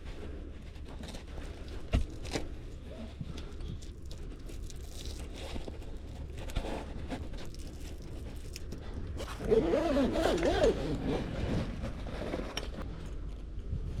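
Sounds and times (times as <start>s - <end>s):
rustling and crinkling: 0.0s - 14.0s.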